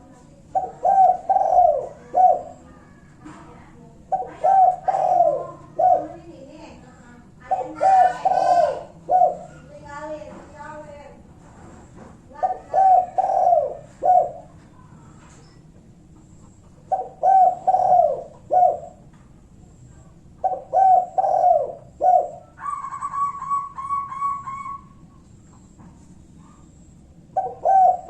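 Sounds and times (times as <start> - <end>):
dove cooing: 0.0 - 10.2, 12.3 - 15.0, 16.4 - 19.1, 20.4 - 25.7, 26.4 - 28.0.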